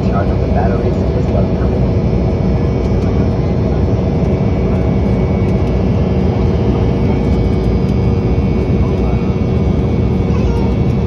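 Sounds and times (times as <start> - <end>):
jet airliner cabin roar: 0.0 - 11.0.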